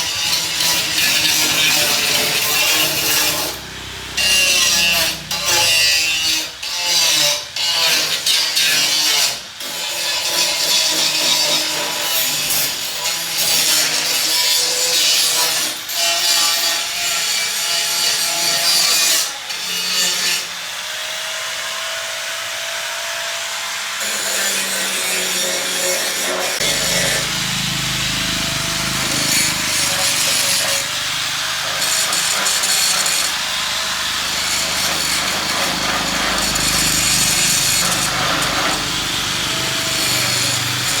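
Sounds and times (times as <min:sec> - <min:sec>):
hand saw cutting wood: 0:00.0 - 0:41.0.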